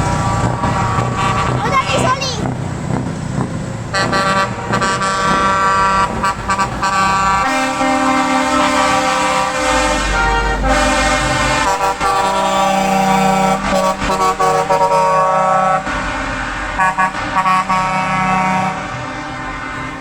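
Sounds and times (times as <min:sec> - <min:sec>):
truck air horns: 0:00.0 - 0:02.6, 0:03.9 - 0:20.0
deep engine rumble: 0:00.0 - 0:20.0.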